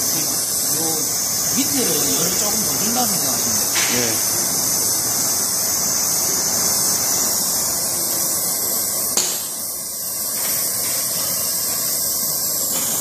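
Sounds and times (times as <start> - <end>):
torch flame hissing: 0.0 - 13.0.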